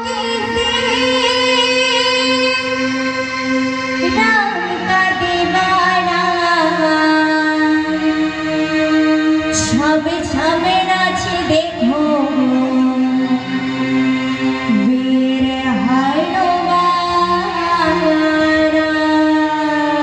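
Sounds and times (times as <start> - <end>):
girls singing devotional song: 0.0 - 20.0
sustained instrumental accompaniment: 0.0 - 20.0.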